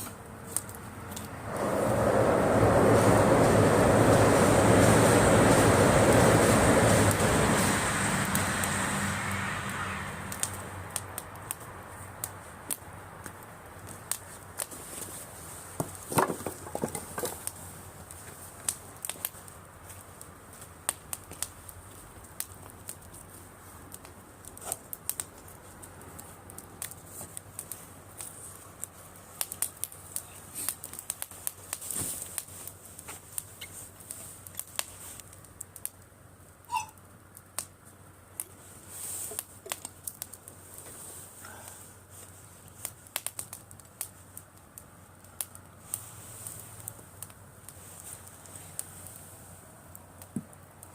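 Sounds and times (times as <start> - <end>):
campfire crackling and popping: 0.0 - 50.9
fire hissing: 0.0 - 50.9.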